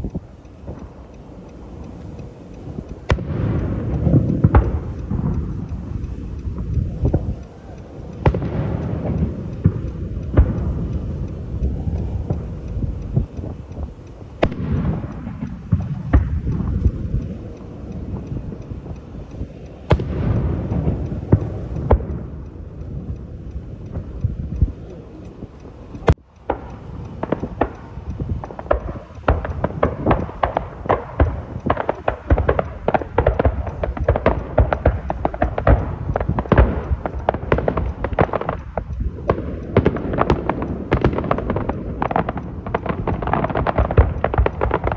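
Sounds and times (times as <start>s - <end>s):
rapid crackling firework pops: 0.0s - 44.9s
firework booms: 1.8s - 19.0s, 19.9s - 23.2s, 24.0s - 44.9s.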